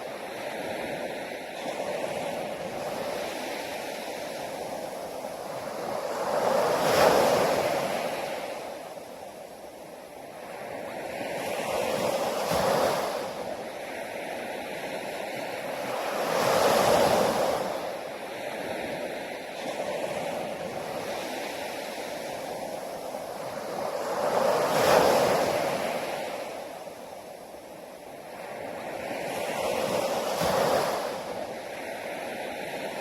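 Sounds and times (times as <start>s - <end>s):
sea waves breaking on a beach: 0.0s - 33.0s.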